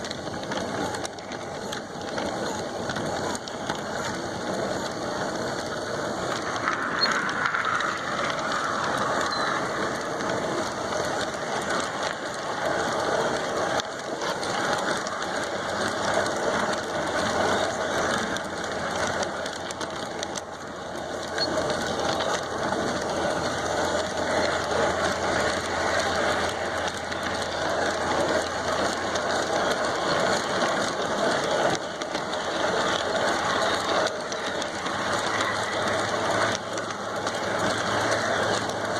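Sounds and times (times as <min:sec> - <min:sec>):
model train motor whirring: 0:00.0 - 0:38.9
wheels on rails: 0:00.0 - 0:38.9.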